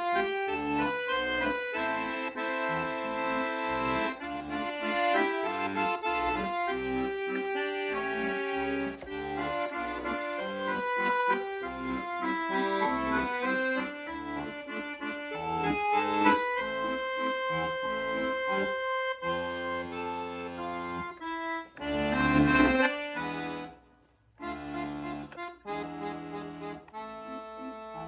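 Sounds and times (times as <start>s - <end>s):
accordion melody: 0.0s - 28.0s.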